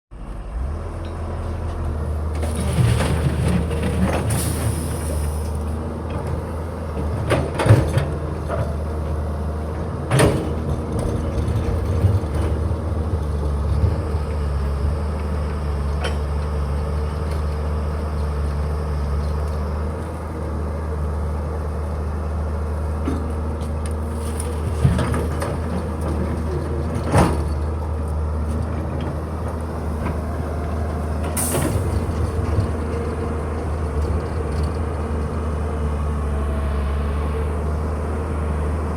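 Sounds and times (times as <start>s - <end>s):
diesel excavator engine running: 0.1s - 38.9s.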